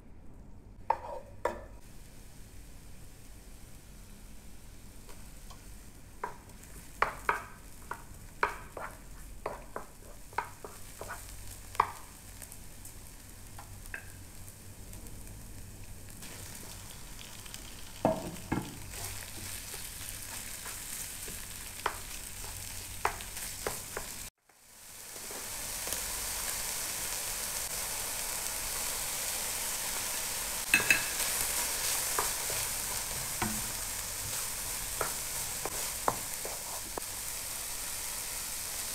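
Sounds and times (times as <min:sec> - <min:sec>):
food sizzling in pan: 0:00.9 - 0:38.9.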